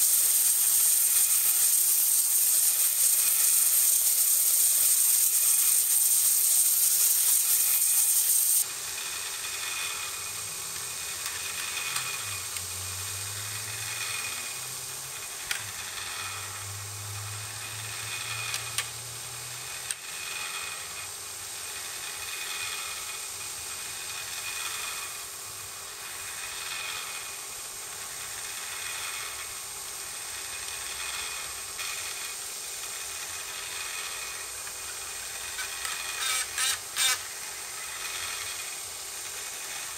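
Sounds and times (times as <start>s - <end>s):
bench grinder grinding metal: 0.0s - 39.9s.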